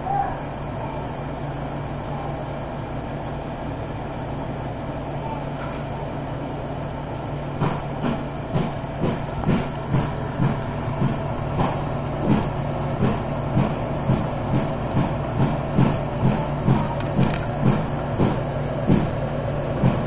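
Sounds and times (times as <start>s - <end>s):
aquarium pump and fans humming: 0.0s - 20.0s.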